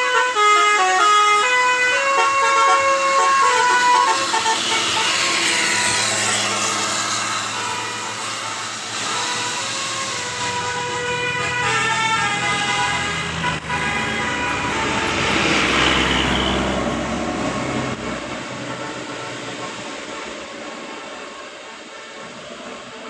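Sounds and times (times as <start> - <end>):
bus engine and road noise: 0.0 - 23.0
bus musical horn: 0.0 - 23.0.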